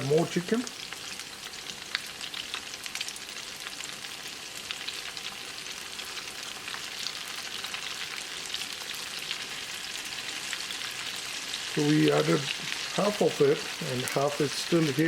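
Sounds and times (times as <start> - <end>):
chicken deep frying in oil: 0.0 - 15.0.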